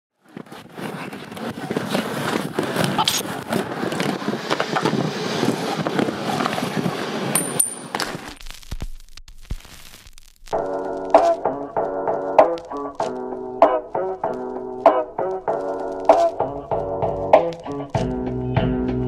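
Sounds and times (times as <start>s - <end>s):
skate wheels rolling on concrete: 0.1s - 8.4s, 10.5s - 19.0s
wheels clicking over cracks: 0.2s - 8.4s, 10.6s - 18.1s.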